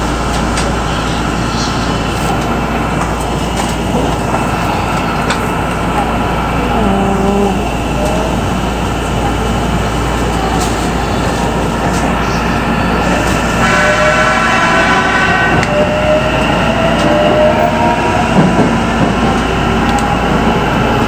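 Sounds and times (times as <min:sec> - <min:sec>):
electric train running: 0:00.0 - 0:21.0.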